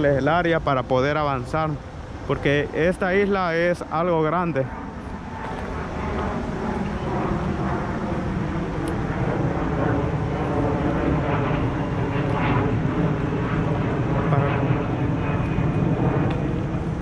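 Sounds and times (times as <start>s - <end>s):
jet plane passing overhead: 0.0s - 17.0s.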